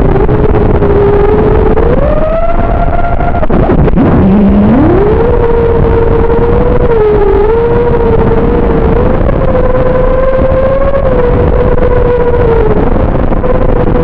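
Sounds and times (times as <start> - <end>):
dense rushing noise: 0.0 - 14.0
quadcopter motors whining: 0.0 - 14.0.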